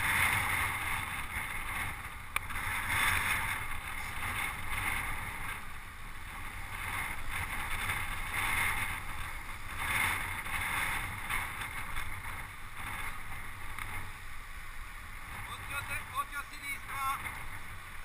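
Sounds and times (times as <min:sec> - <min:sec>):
low rumble of bicycle ride: 0:00.0 - 0:18.0
wind rushing over microphone: 0:00.0 - 0:18.0.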